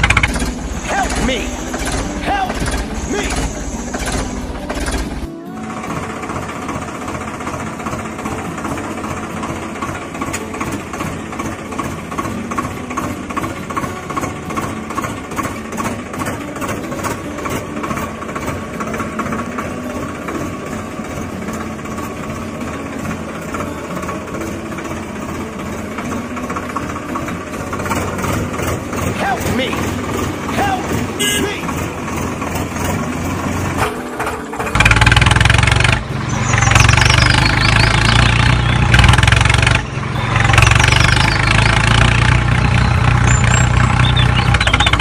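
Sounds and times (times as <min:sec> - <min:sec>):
small engine idling: 0:00.0 - 0:45.0.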